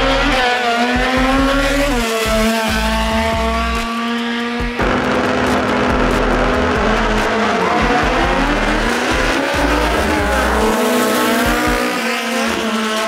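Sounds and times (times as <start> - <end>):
racing car engine at full throttle: 0.0 - 13.0.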